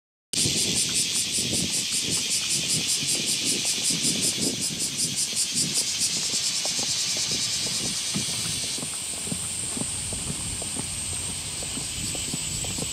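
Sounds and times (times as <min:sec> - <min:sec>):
cicadas pulsing chorus: 0:00.4 - 0:12.9.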